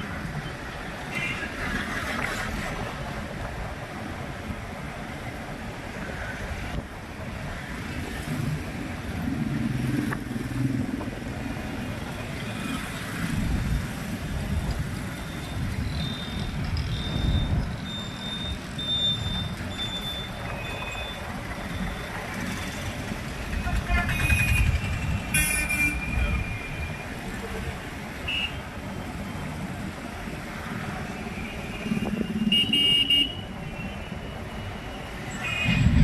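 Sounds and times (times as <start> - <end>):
traffic rumble of engines and tyres: 0.0 - 36.0.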